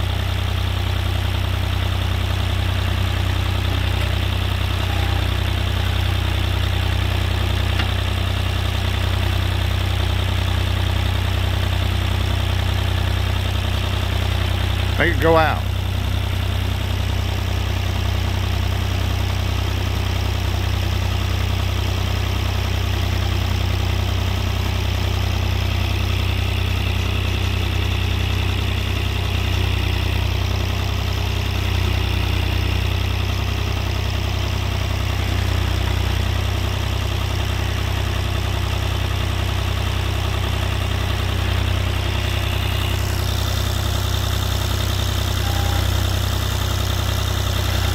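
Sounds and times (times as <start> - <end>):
backhoe engine humming: 0.0 - 47.9.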